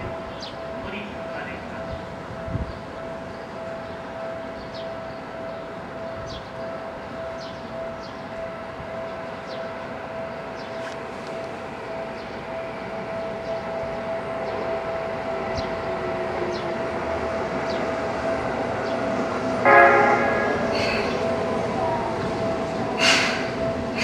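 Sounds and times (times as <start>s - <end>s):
electric train rumbling: 0.0s - 24.0s
steady high tone: 0.0s - 24.0s.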